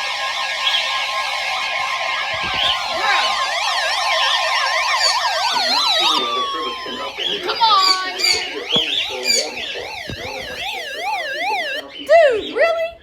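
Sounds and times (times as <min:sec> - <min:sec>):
steady electronic tone: 0:00.0 - 0:11.9
warbling electronic siren tones: 0:00.0 - 0:12.6.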